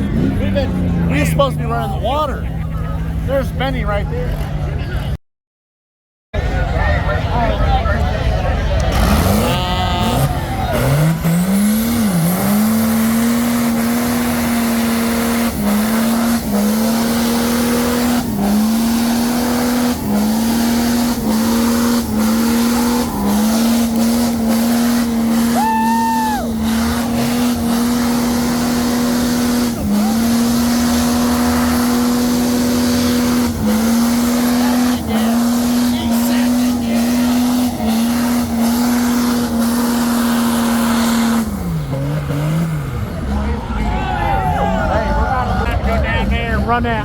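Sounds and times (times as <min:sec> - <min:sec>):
engine revving high: 0:08.7 - 0:46.9.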